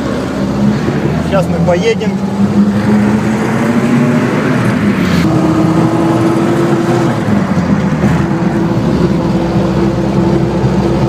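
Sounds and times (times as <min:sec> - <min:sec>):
vehicle engine pulling away: 0:00.0 - 0:11.0.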